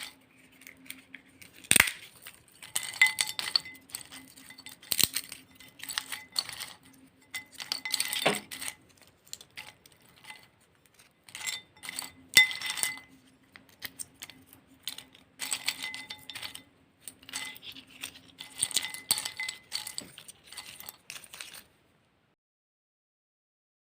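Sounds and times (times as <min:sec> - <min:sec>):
hard objects clinking: 0:00.0 - 0:21.7.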